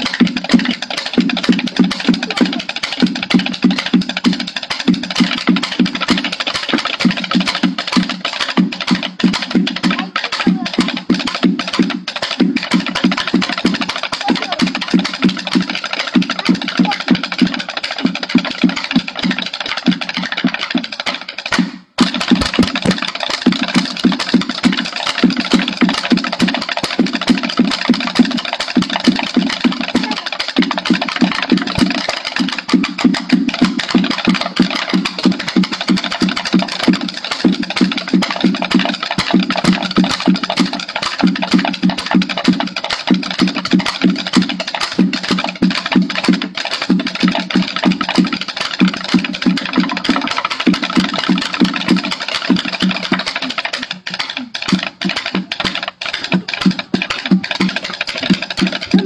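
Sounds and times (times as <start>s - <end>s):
rapid stick drumming: 0.0s - 59.0s.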